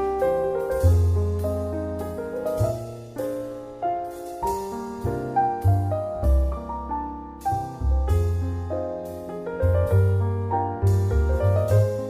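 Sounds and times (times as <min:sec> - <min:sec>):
low bass line: 0:00.0 - 0:12.0.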